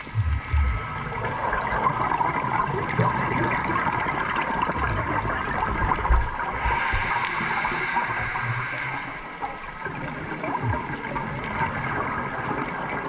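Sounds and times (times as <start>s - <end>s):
crackling hiss of water: 0.0s - 13.0s.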